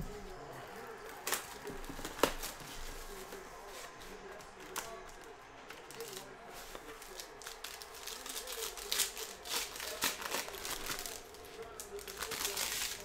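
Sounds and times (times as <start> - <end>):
cardboard and wrapper rustling: 0.9 - 13.0.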